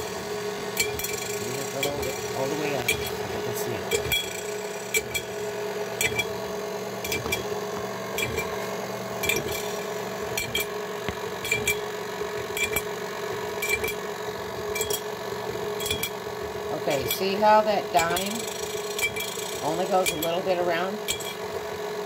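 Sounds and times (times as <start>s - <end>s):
stand mixer motor hum: 0.0s - 22.0s.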